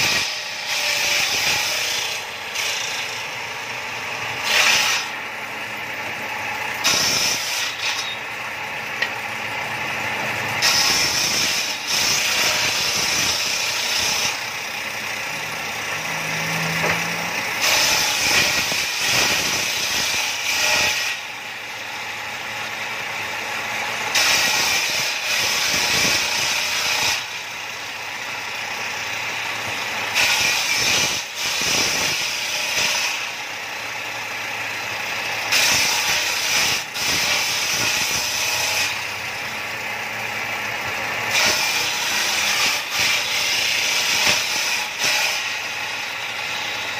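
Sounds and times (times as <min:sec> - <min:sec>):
table saw ripping planks: 0:00.0 - 0:46.9.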